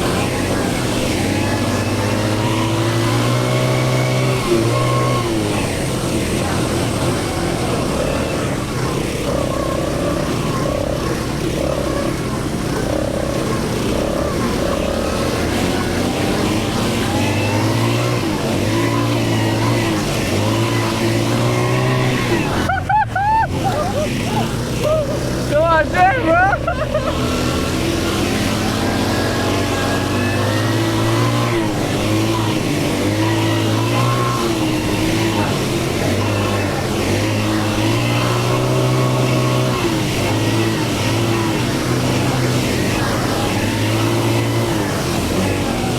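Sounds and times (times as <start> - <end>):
quad bike engine running: 0.0 - 45.9.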